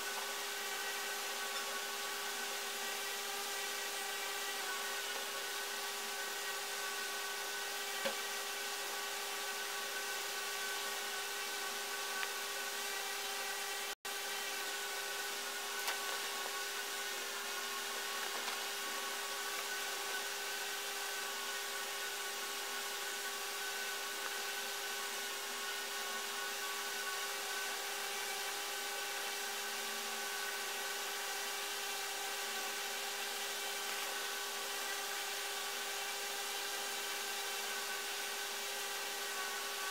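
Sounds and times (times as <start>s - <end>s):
motor drone: 0.0s - 39.9s.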